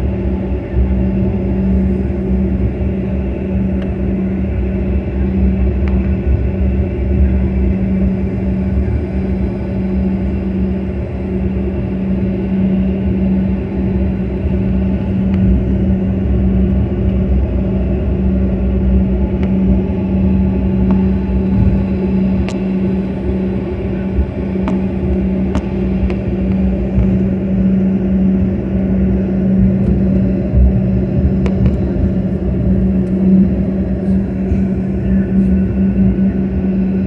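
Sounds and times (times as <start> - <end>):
jet engines idling hum: 0.0 - 37.0.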